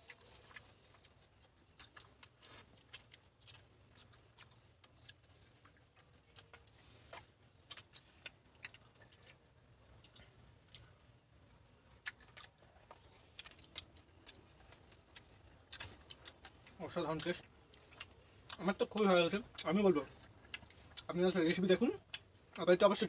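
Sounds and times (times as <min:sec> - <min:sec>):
mouth clicks of people chewing: 0:00.0 - 0:23.0.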